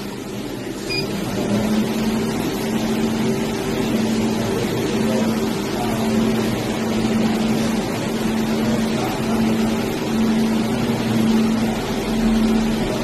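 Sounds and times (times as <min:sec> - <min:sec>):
machine fans and pump humming: 0:00.0 - 0:13.0.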